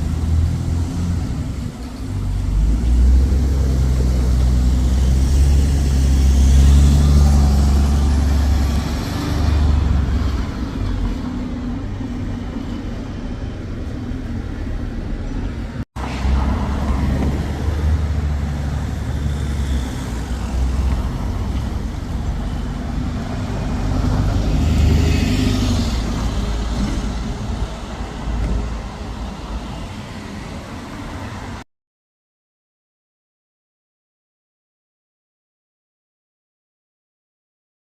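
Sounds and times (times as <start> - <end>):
heavy traffic engine rumble: 0.0 - 31.6.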